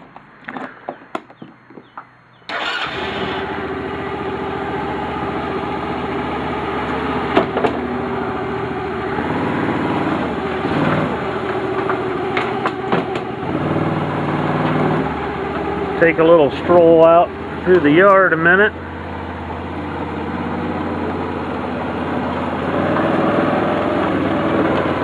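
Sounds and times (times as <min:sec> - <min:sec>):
quad bike engine idling: 0:02.9 - 0:23.0.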